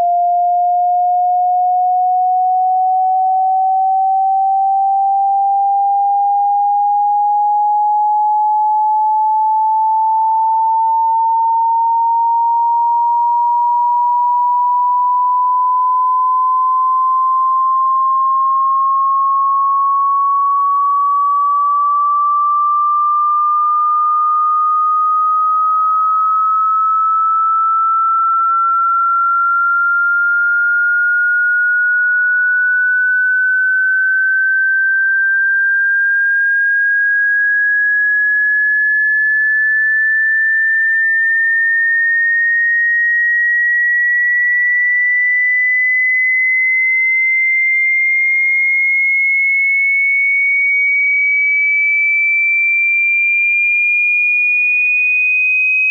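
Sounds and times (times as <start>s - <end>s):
rising sine tone sweep: 0.0s - 47.0s.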